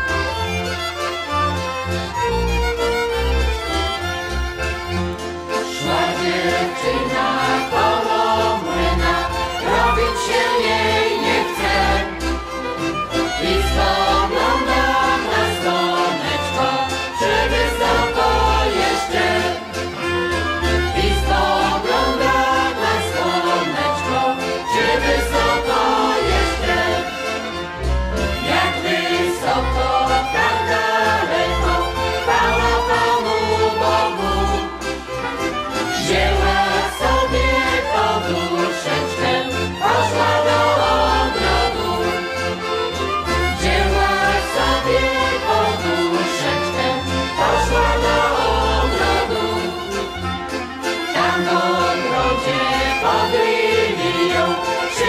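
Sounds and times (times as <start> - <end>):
fiddle: 0.0 - 55.0
group of voices singing: 5.5 - 55.0.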